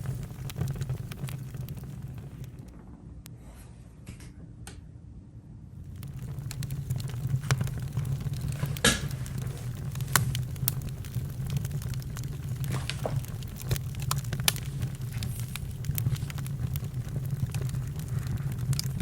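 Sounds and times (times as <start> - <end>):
campfire crackling and popping: 0.0 - 2.8, 5.8 - 19.0.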